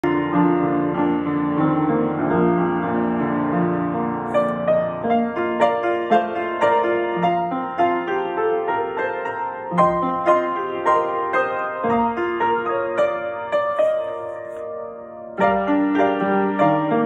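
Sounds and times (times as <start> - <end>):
piano playing slow hymn: 0.0 - 17.0.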